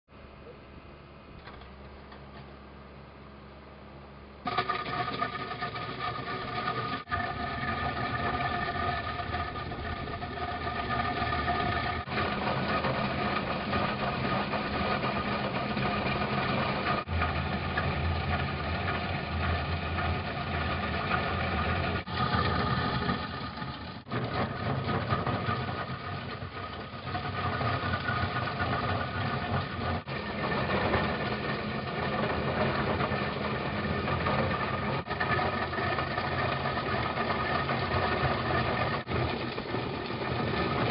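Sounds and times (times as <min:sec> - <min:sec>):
drum cutter milling asphalt: 0:04.4 - 0:40.9
diesel engine running: 0:04.5 - 0:40.9.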